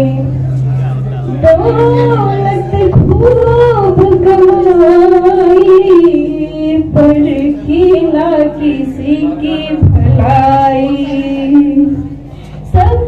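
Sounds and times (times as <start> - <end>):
woman singing into microphone: 0.0 - 0.4, 1.3 - 13.0.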